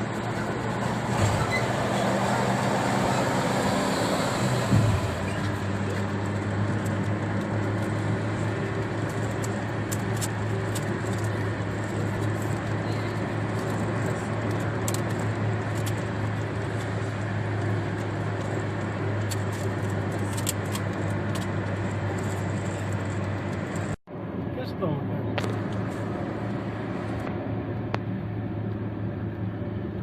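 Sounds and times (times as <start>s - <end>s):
car road and engine drone: 0.0s - 30.0s.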